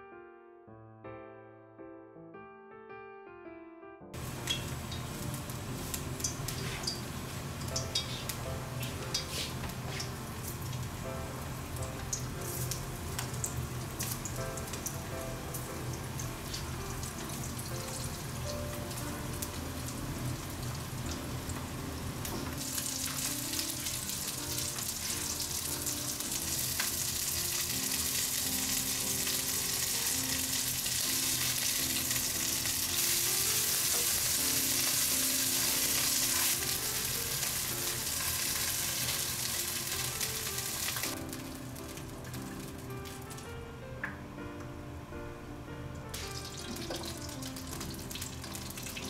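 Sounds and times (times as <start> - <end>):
fish sizzling in oil: 4.2 - 43.5, 46.2 - 49.0.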